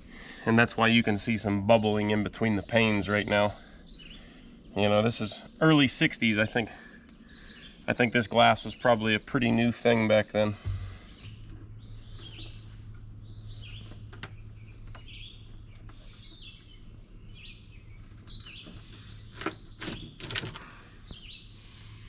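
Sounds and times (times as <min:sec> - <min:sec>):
steady low hum: 0:00.0 - 0:19.7, 0:20.5 - 0:22.0
songbirds chirping: 0:00.0 - 0:22.0.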